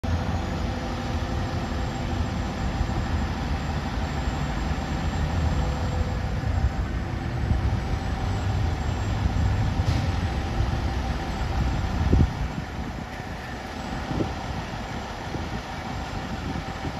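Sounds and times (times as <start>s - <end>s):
diesel engine idling: 0.0s - 16.9s.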